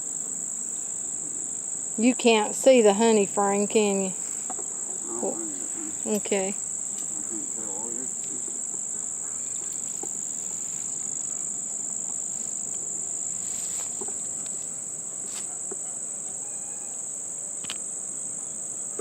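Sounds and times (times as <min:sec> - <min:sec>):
insect chorus trilling: 0:00.0 - 0:19.0.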